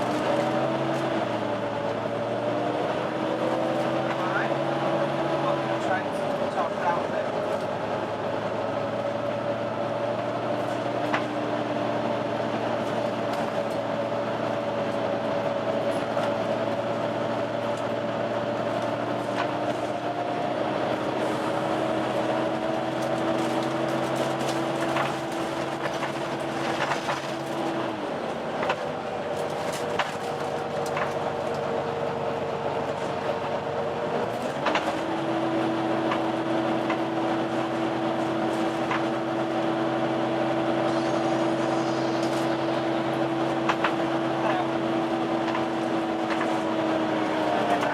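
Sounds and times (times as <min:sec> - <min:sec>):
bus cooling fan whine: 0:00.0 - 0:47.9.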